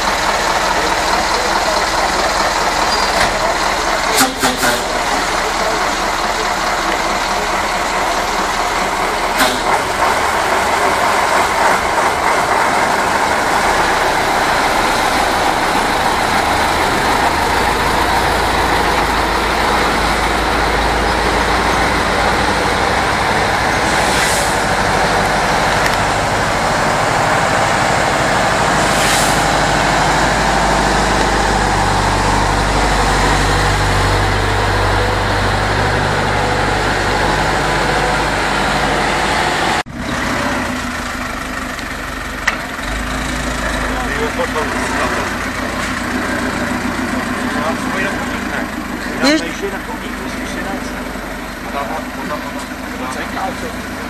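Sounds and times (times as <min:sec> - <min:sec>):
heavy diesel engines: 0:00.0 - 0:54.0.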